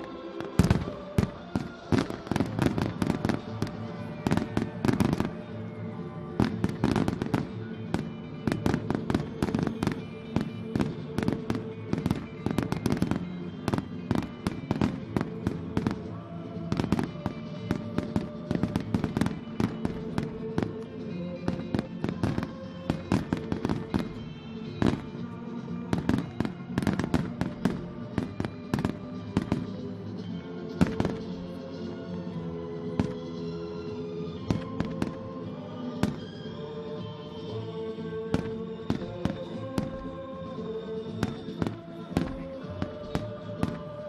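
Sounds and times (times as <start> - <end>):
fireworks bangs and crackles: 0.0 - 31.9, 32.8 - 33.6, 34.3 - 36.5, 37.4 - 44.0
music playing: 0.0 - 44.0.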